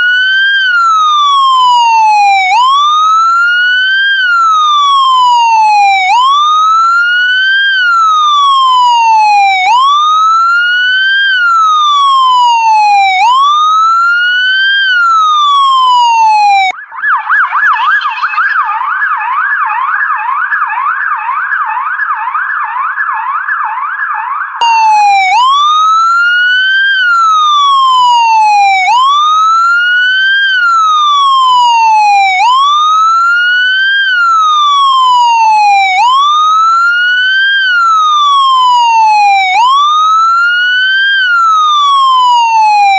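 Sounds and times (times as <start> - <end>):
electronic police siren: 0.0 - 42.9.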